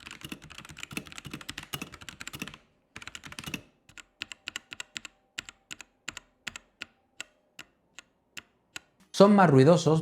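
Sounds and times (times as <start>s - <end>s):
mechanical keyboard typing: 0.0s - 8.9s.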